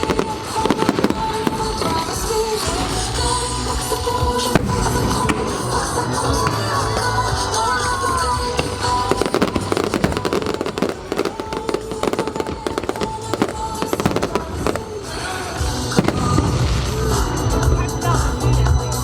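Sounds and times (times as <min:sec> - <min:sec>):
fireworks bursting and crackling: 0:00.0 - 0:19.0
show music: 0:00.0 - 0:19.0.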